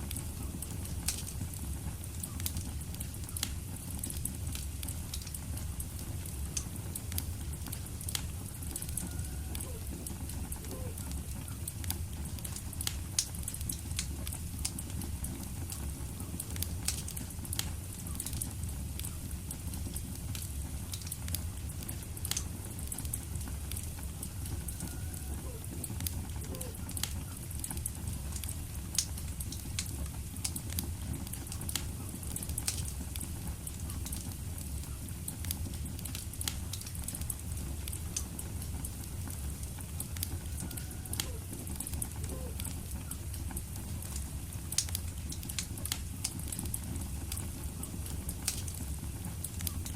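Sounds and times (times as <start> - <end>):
fire crackling and popping: 0.0 - 49.9
low rumble of flames: 0.0 - 49.9.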